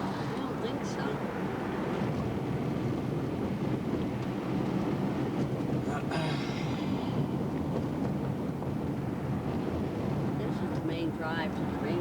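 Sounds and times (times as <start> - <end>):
road and tyre rumble in car: 0.0 - 12.0.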